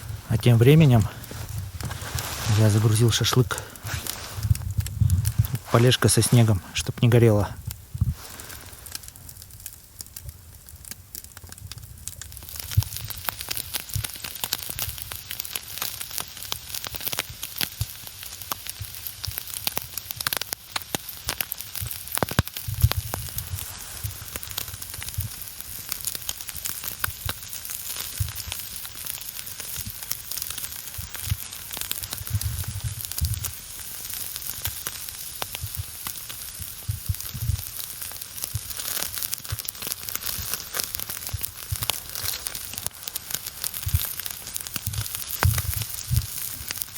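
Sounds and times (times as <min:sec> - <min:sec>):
campfire crackling and popping: 0:00.0 - 0:46.9
meat sizzling on skewers: 0:00.0 - 0:46.9.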